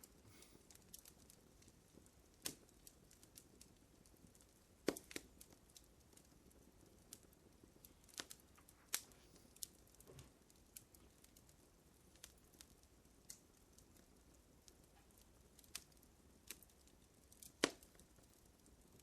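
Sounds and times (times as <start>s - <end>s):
low hiss: 0.0s - 19.0s
wood fire crackling faintly: 0.0s - 19.0s.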